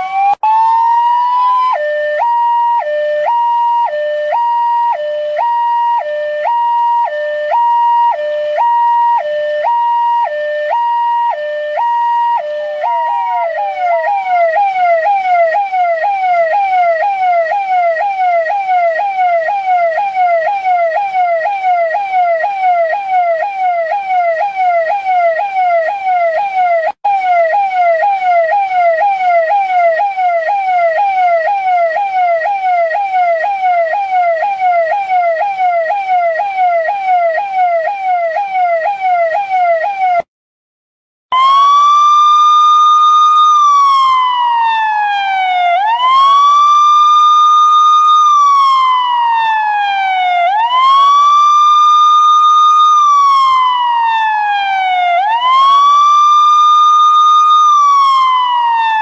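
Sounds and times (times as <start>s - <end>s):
electronic siren: 0.0s - 40.3s, 41.3s - 59.0s.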